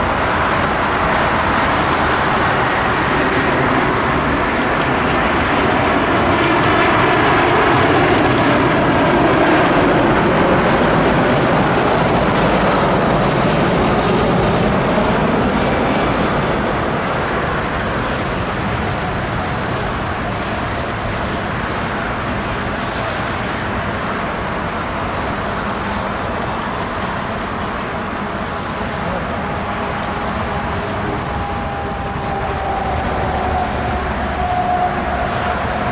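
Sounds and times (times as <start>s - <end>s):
jet airliner engine noise: 0.0s - 35.9s.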